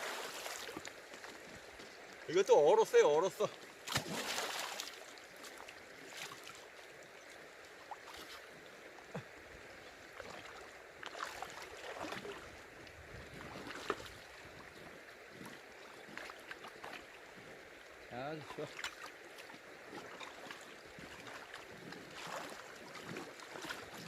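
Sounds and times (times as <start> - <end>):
river water sloshing: 0.0 - 24.0.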